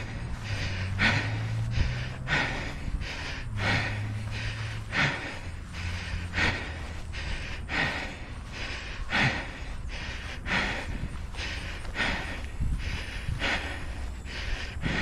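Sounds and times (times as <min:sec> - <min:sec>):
heavy rhythmic breathing: 0:00.0 - 0:15.0.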